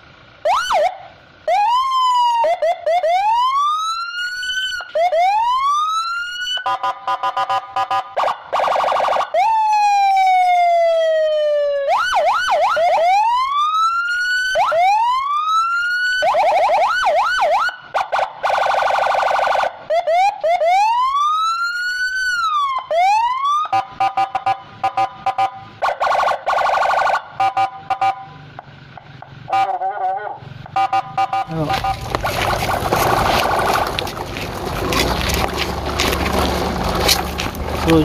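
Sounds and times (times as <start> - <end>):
electronic siren wailing: 0.4 - 28.5, 29.5 - 38.0.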